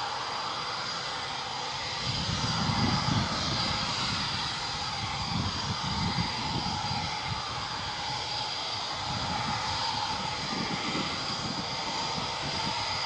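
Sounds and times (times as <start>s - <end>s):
jet engines whining: 0.0s - 13.0s.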